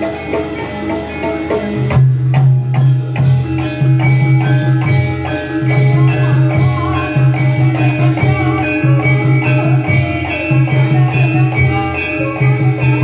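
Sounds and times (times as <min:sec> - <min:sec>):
drumming: 0:00.0 - 0:13.0
gamelan metallophones playing runs: 0:00.0 - 0:13.0.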